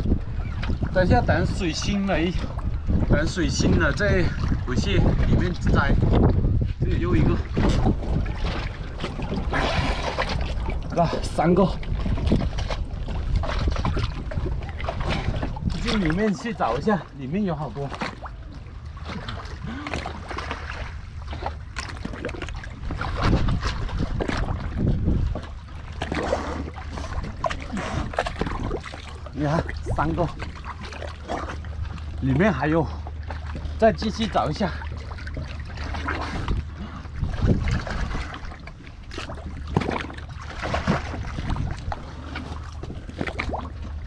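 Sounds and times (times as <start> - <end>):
steady low rumble: 0.0 - 44.0
water splashing and sloshing: 0.0 - 44.0.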